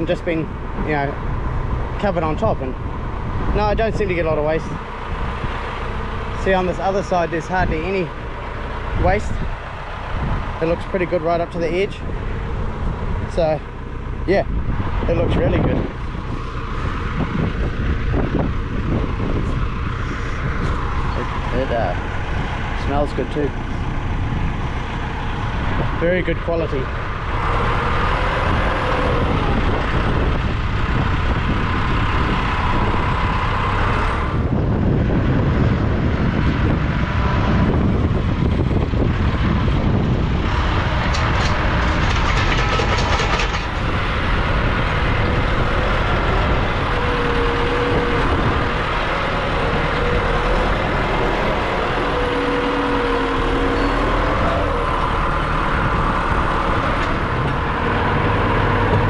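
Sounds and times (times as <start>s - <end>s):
diesel engine running: 0.0s - 59.0s
wind buffeting microphone: 0.0s - 59.0s.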